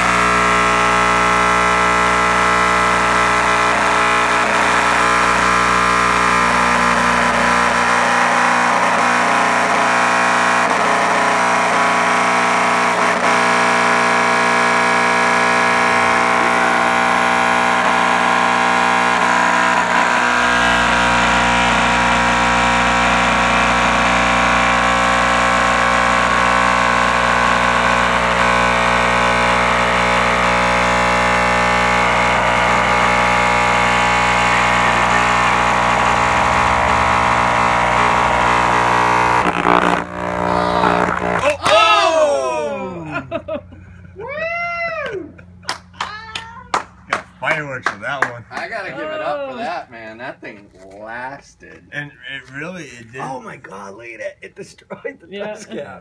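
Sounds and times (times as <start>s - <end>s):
distorted subwoofer bass drone: 0.0s - 45.7s.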